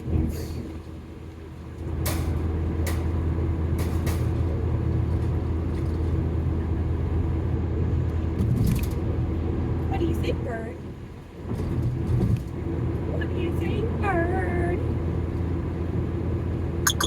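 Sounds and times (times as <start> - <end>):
car road and engine rumble: 0.0 - 16.8.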